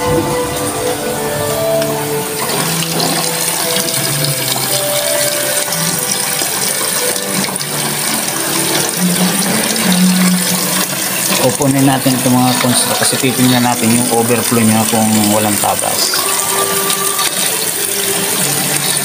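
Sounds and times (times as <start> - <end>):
faucet running into a steel sink: 0.0 - 19.0
water splashing into pooled water: 0.0 - 19.0.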